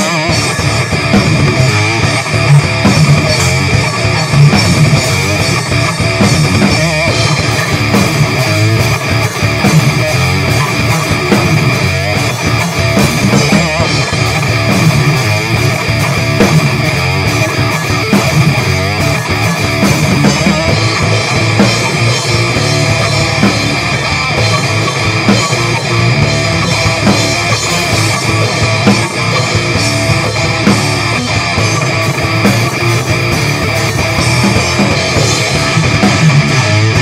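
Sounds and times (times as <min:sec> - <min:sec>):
drum kit: 0:00.0 - 0:37.0
electric guitar: 0:00.0 - 0:37.0.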